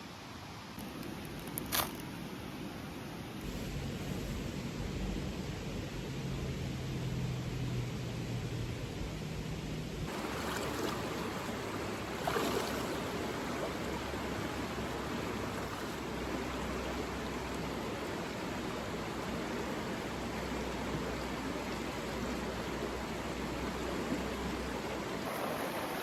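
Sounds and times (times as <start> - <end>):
river rushing: 0.0 - 26.0
low steady hum: 0.8 - 26.0.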